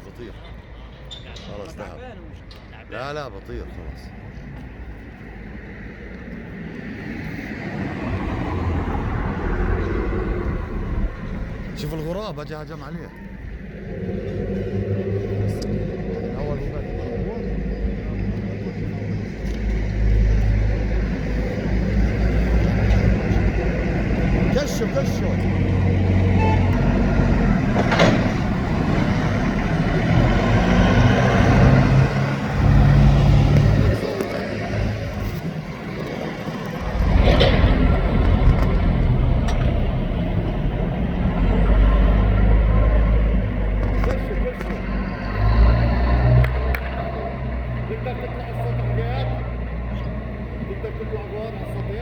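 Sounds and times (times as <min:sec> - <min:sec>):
vehicle passing: 0:03.2 - 0:52.0
loud steady low rumble: 0:08.1 - 0:52.0.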